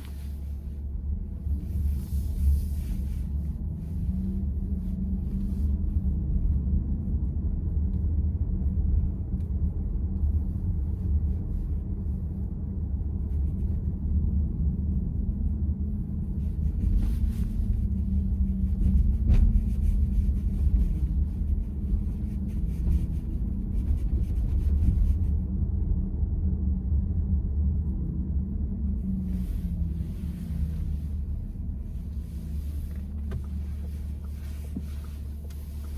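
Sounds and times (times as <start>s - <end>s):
road and tyre rumble: 0.0s - 35.9s.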